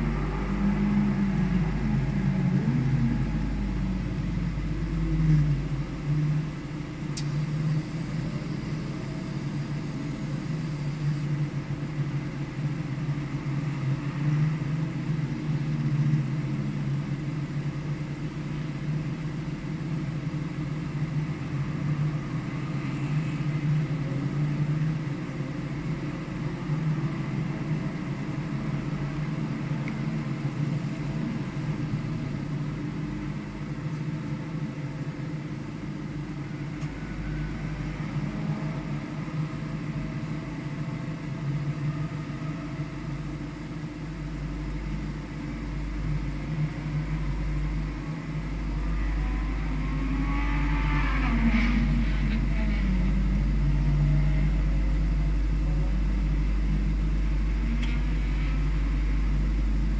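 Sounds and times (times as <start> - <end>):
gliding whine: 0.0 - 59.9
vehicle engine rumbling: 0.0 - 59.9.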